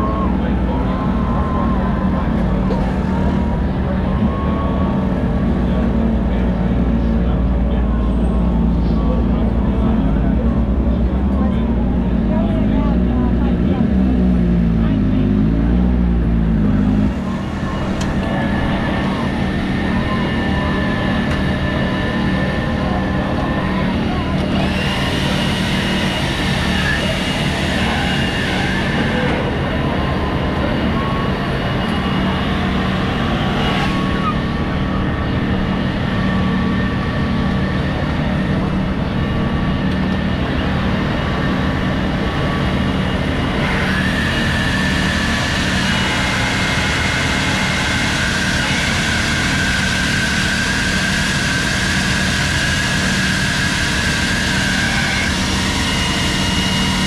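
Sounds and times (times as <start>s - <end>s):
engine drone: 0.0s - 57.0s.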